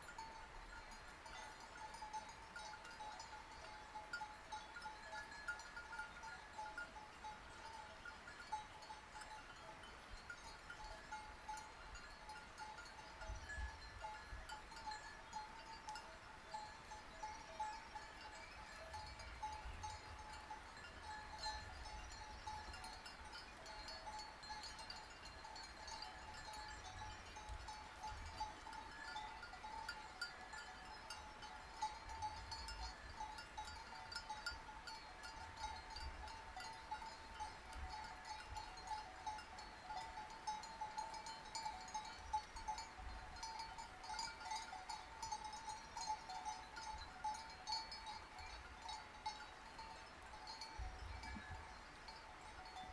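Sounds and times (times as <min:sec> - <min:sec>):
sheep bells clanking: 0:00.0 - 0:52.9.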